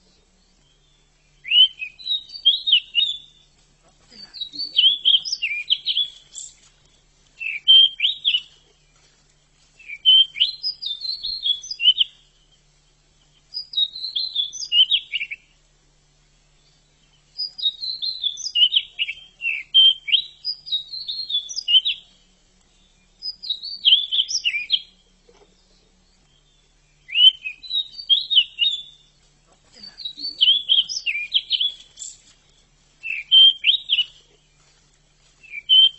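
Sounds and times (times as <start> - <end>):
bird twittering song: 0.0 - 35.9.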